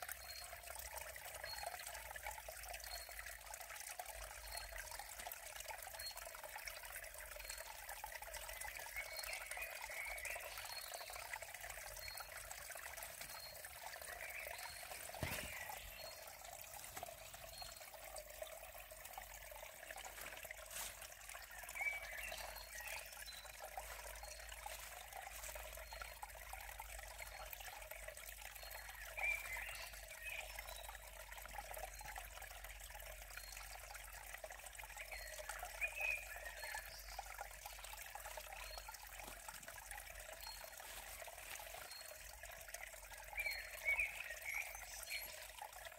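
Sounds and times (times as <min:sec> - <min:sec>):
creek water trickling: 0:00.0 - 0:45.9.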